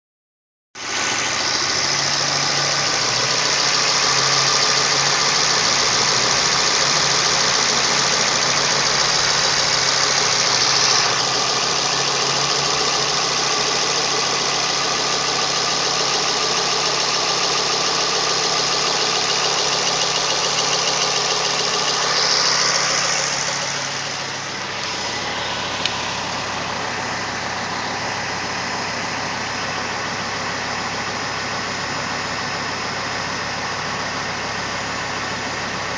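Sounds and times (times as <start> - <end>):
car engine running: 0.8 - 35.9.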